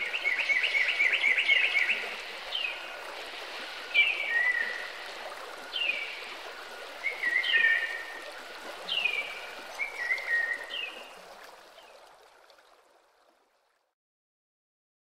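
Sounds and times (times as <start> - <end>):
running stream: 0.0 - 14.0.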